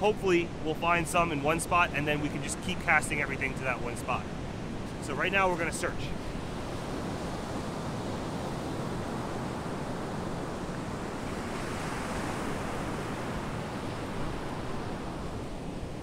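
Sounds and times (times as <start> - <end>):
ocean surf washing on beach: 0.0 - 16.0
wind rumbling on microphone: 0.2 - 16.0.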